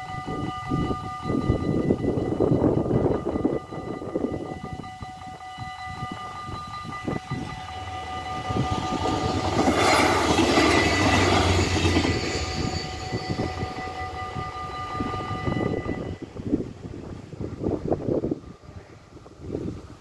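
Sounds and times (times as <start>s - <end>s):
level-crossing warning bells: 0.0s - 16.4s
train rumbling past: 0.0s - 19.3s.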